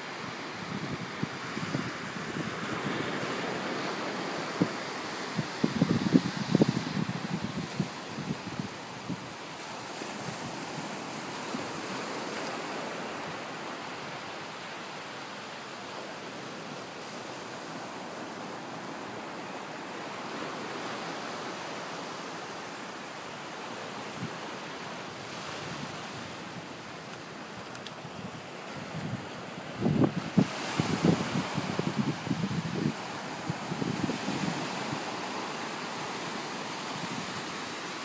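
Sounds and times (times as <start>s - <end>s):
surf washing up beach: 0.0s - 38.0s.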